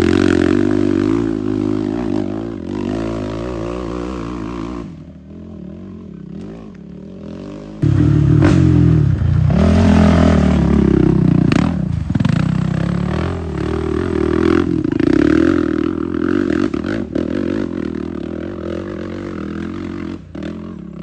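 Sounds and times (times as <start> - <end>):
quad engine revving: 0.0 - 21.0.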